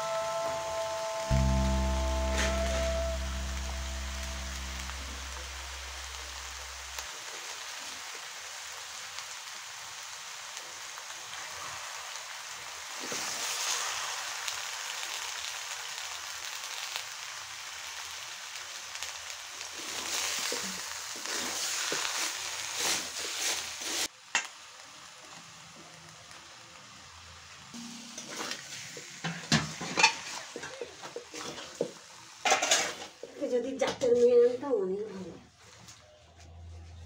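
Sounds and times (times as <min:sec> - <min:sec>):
food sizzling in hot oil: 0:00.0 - 0:34.8.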